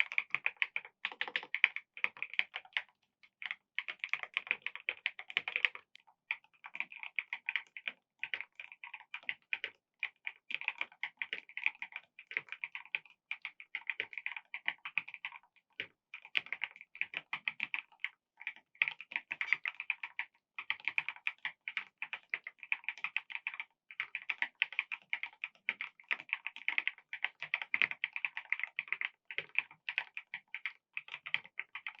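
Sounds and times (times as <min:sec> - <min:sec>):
fast mechanical keyboard typing: 0:00.0 - 0:32.0.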